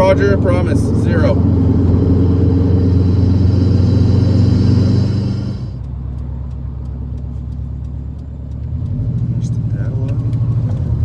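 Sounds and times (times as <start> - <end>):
turbocharged car engine accelerating: 0.0 - 11.0.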